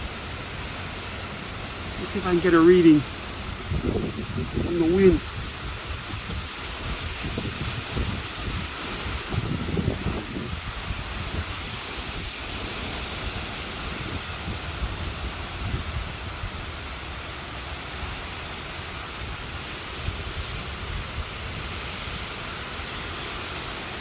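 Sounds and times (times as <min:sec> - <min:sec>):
storm wind and rain: 0:00.0 - 0:24.0
wind buffeting microphone: 0:00.0 - 0:24.0.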